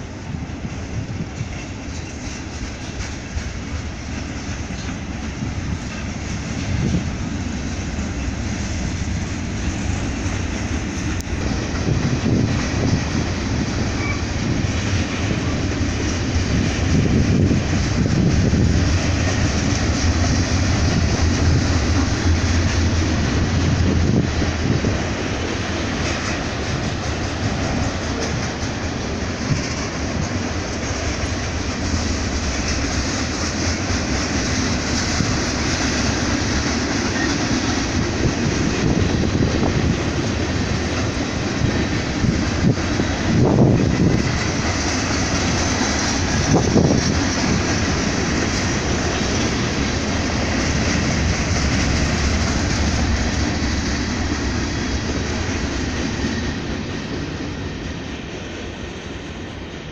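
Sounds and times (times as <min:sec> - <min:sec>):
freight train wheels rumbling: 0:00.0 - 0:59.9
train cars rattling: 0:00.0 - 0:59.9.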